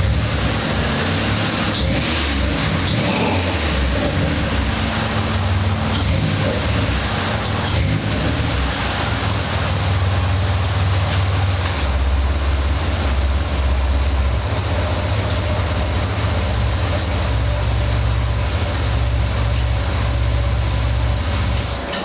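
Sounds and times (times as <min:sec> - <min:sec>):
car exhaust low drone: 0:00.0 - 0:22.0.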